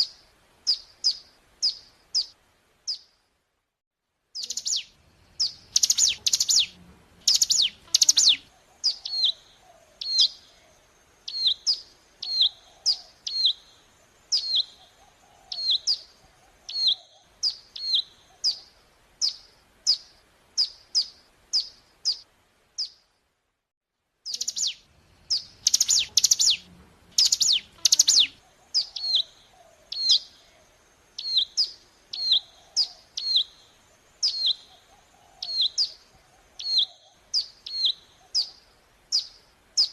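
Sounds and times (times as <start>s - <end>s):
bird chirping rapidly: 0.0s - 3.1s, 4.4s - 10.6s, 11.2s - 22.2s, 22.8s - 23.0s, 24.3s - 30.4s, 31.2s - 39.9s.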